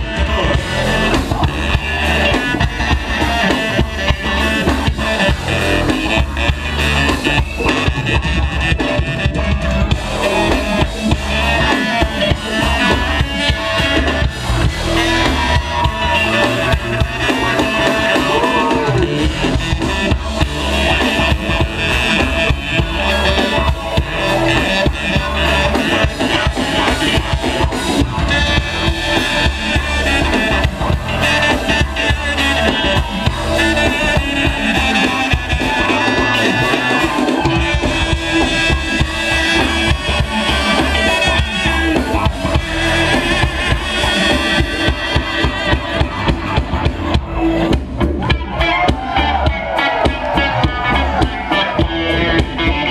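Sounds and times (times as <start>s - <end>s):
drum kit beat: 0.0s - 52.9s
funk band playing: 0.0s - 52.9s.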